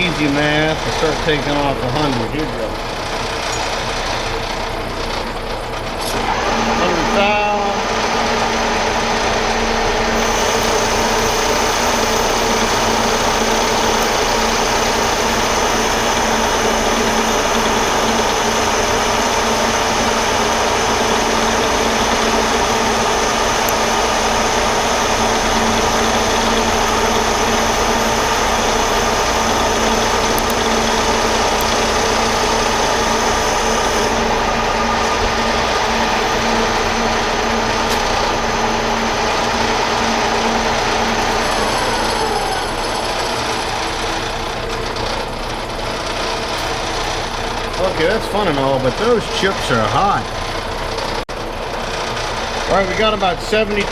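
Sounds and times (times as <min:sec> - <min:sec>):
metal lathe humming: 0:00.0 - 0:53.9
hissing cutting noise: 0:06.0 - 0:50.3.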